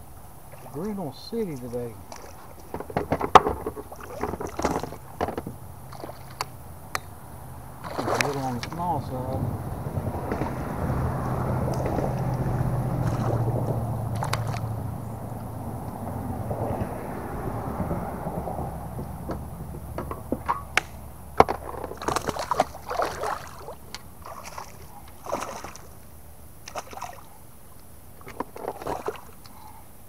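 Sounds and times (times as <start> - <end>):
fish splashing in water: 0.4 - 5.2, 5.8 - 6.6, 7.6 - 9.0, 9.6 - 19.9, 21.6 - 27.5, 28.2 - 29.8.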